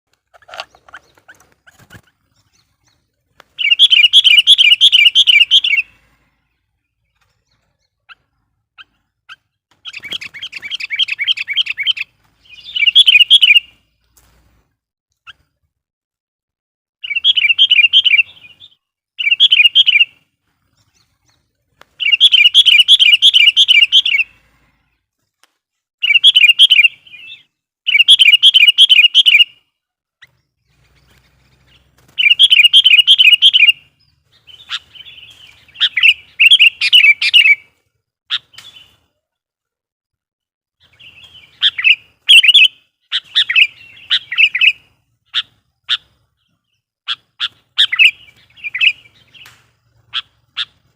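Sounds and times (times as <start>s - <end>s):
bulbul rapid repeated calls: 0.1s - 6.1s, 7.0s - 13.8s, 17.0s - 24.5s, 26.0s - 39.0s, 40.8s - 50.9s
bird chirps: 0.1s - 14.5s, 17.0s - 25.4s, 26.0s - 39.4s, 40.8s - 50.9s.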